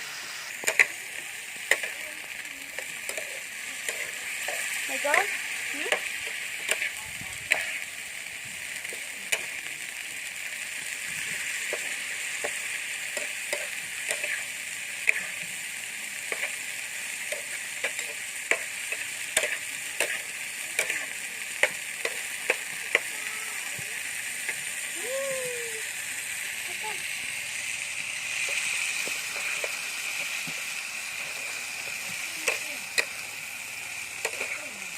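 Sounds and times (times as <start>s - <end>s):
food sizzling in a pan: 0.0s - 34.9s.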